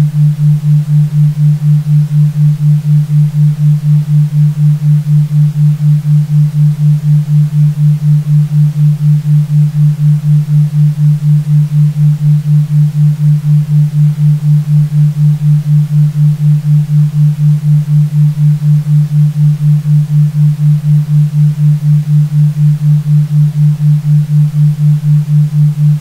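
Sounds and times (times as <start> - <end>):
pulsing low pure tone: 0.0 - 26.0.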